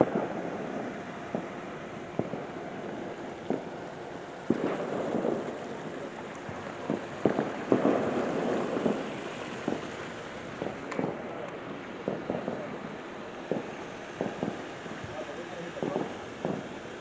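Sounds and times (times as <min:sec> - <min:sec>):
fireworks popping and crackling: 0:00.0 - 0:17.0.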